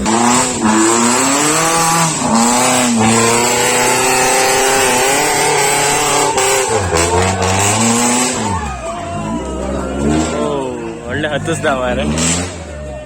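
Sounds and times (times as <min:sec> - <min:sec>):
off-road engine revving hard: 0:00.0 - 0:13.0.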